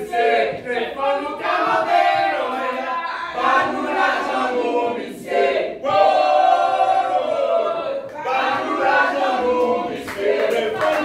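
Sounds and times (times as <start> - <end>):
mixed choir chanting: 0.0 - 11.0.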